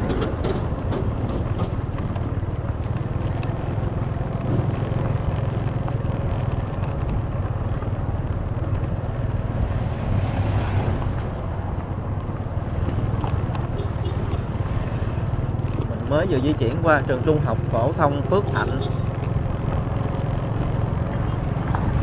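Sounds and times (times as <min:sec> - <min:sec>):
vehicle rumbling on rough road: 0:00.0 - 0:22.0.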